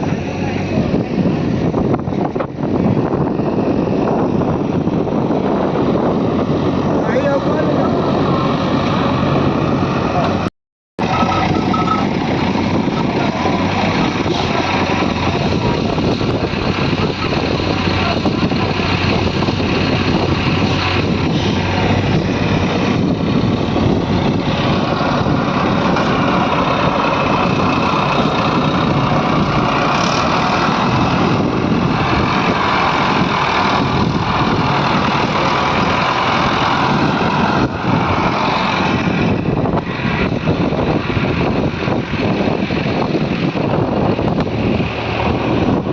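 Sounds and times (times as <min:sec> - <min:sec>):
diesel engines running loudly: 0:00.0 - 0:45.9.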